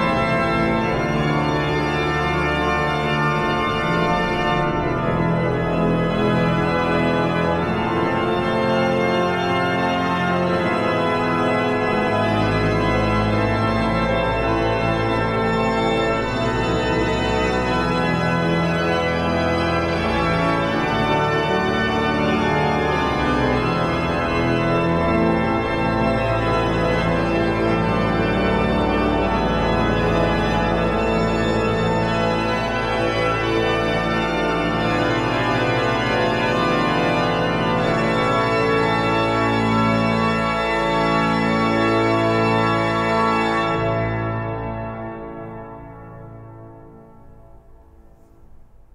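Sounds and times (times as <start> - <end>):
loud pipe organ chords: 0.0 - 48.1.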